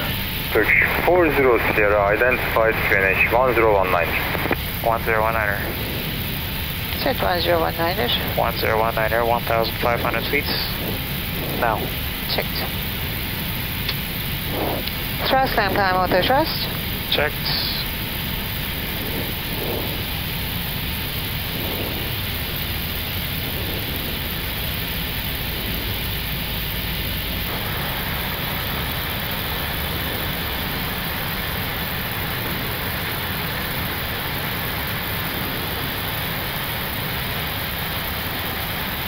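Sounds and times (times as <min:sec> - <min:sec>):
rushing airflow and jet engines: 0:00.0 - 0:39.0.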